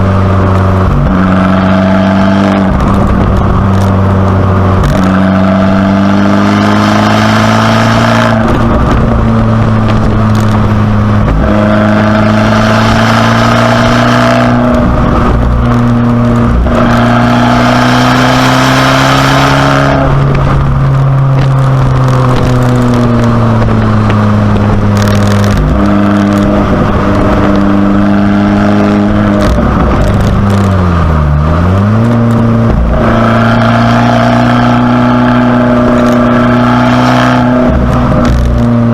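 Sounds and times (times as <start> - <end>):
car engine revving while driving: 0.0 - 38.9.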